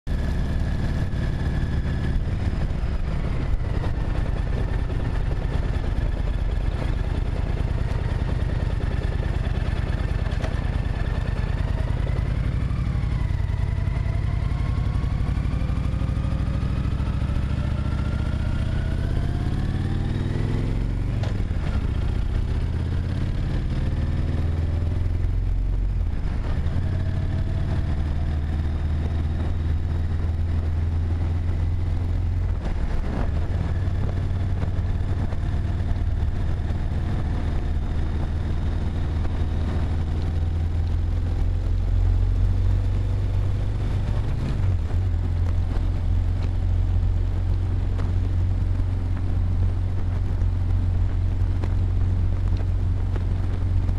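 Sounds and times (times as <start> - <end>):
car engine accelerating: 0.0 - 53.9
road rumble: 0.0 - 53.9.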